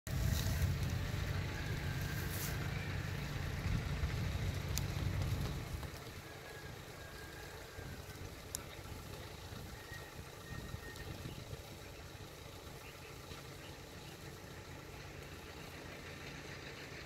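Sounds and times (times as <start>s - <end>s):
low engine drone: 0.1s - 17.0s.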